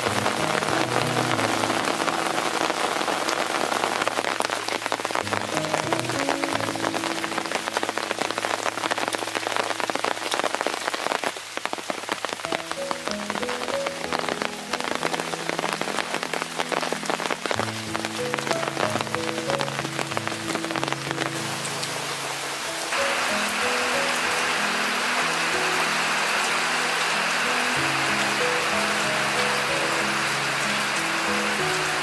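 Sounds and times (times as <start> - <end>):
rain on leaves and umbrella: 0.0 - 32.0
soft background music: 0.0 - 32.0.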